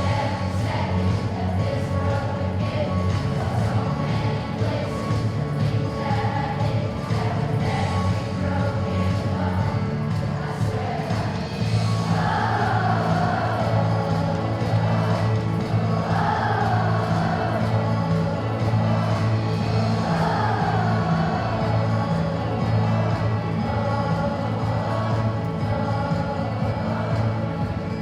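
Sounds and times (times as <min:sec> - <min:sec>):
music with singing voices: 0:00.0 - 0:28.0
steady bass line: 0:00.0 - 0:28.0.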